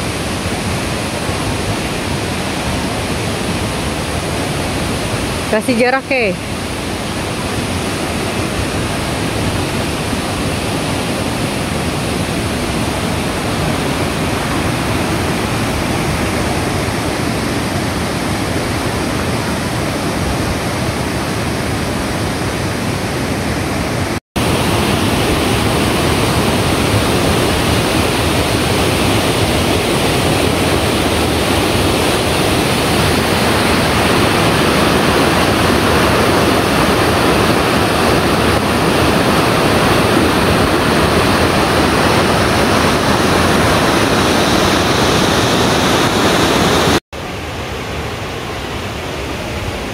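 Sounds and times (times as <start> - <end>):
river and waterfall rushing: 0.0 - 49.9.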